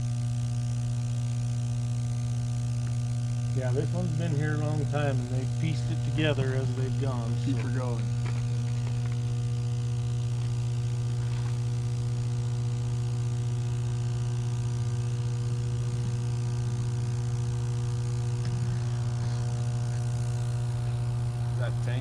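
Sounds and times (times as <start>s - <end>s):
transformer humming: 1.9s - 22.0s.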